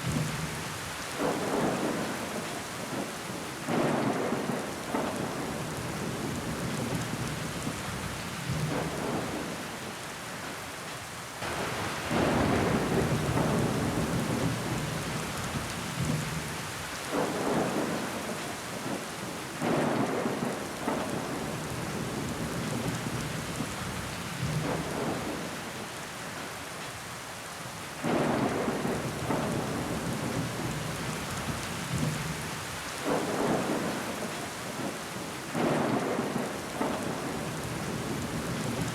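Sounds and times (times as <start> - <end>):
heavy rain against window glass: 0.0 - 38.9.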